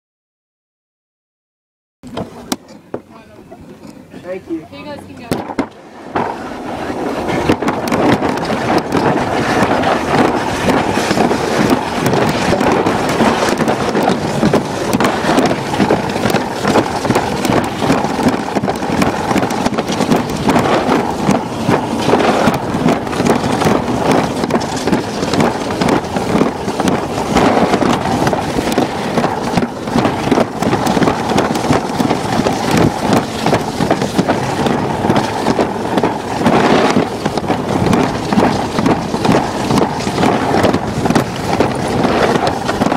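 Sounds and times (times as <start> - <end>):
sled rolling rumble and rattle: 2.0 - 42.9
wind buffeting microphone: 2.0 - 42.9.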